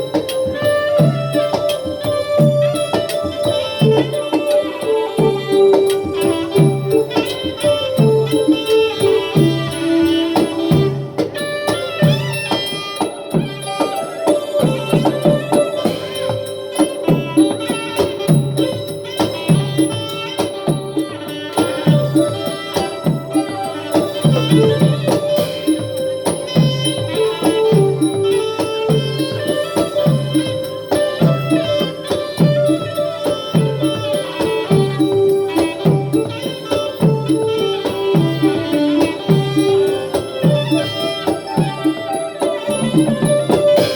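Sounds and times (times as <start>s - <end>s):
held melodic tones: 0.0s - 43.9s.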